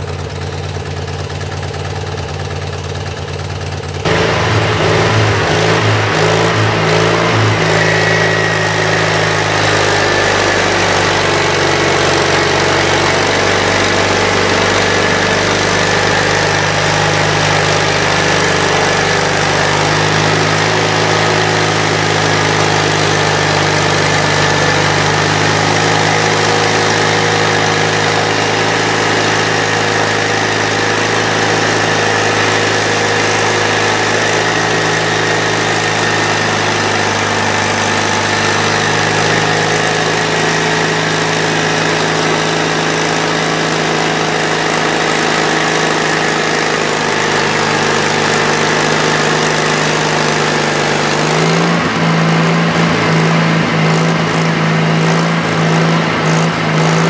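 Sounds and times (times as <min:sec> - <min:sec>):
sawmill engine running under load: 0:00.0 - 0:57.0.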